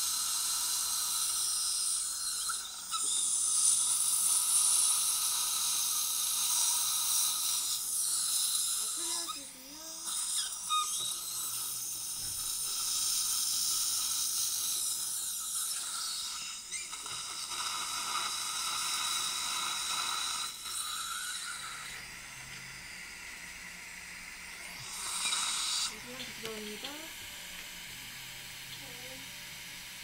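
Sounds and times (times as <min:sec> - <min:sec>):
drill motor whine: 0:00.0 - 0:30.0
suction tip hissing: 0:00.0 - 0:30.0.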